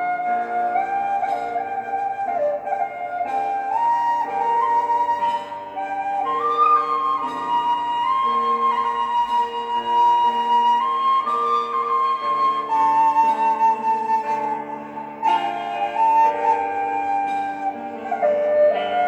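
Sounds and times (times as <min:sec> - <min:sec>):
bamboo flute melody: 0:00.0 - 0:19.0
soft sustained accompaniment: 0:00.0 - 0:19.0.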